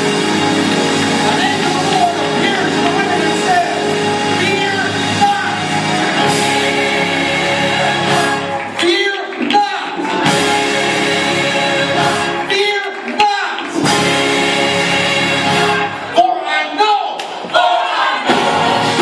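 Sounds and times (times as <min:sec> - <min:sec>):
church choir singing: 0:00.0 - 0:09.1, 0:09.9 - 0:12.7, 0:13.7 - 0:19.0
instrumental accompaniment: 0:00.0 - 0:16.2.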